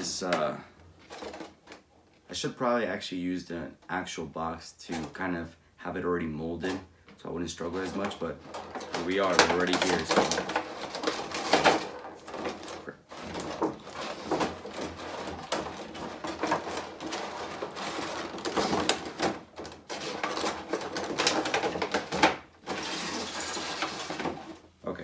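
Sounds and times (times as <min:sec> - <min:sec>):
plastic crinkling and scraping: 0:00.0 - 0:02.5, 0:04.9 - 0:05.3, 0:06.6 - 0:24.8.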